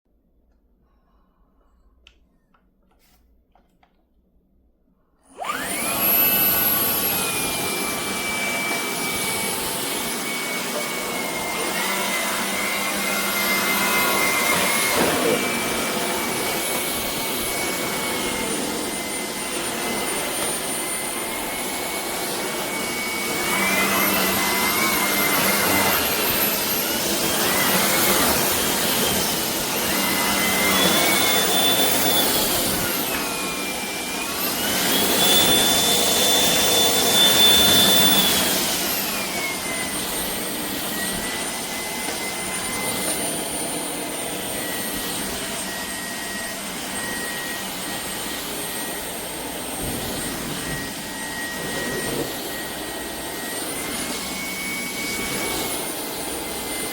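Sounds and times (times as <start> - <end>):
stick vacuum motor whine: 5.2 - 56.9.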